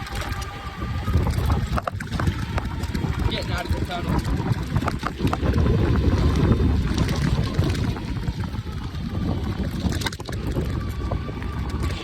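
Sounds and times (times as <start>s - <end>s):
bike tyres rumbling: 0.0s - 12.0s
wind buffeting microphone: 0.0s - 12.0s.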